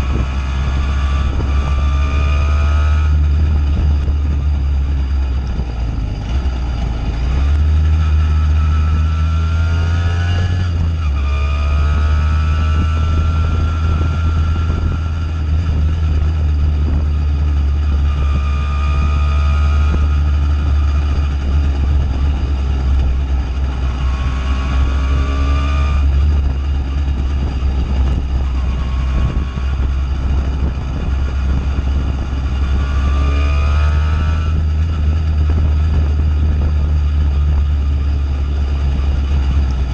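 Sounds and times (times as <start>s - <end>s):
moped engine accelerating: 0.0s - 39.9s.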